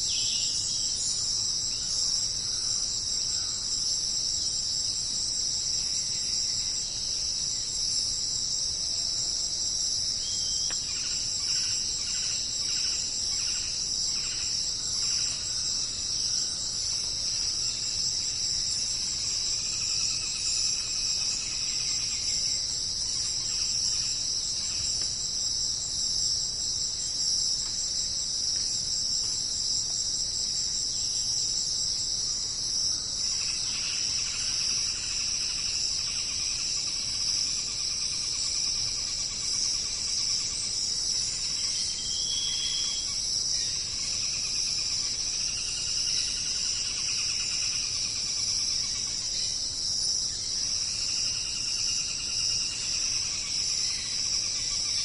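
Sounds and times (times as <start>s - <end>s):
insects trilling and buzzing: 0.0s - 55.0s
lower insect calls: 0.0s - 55.0s.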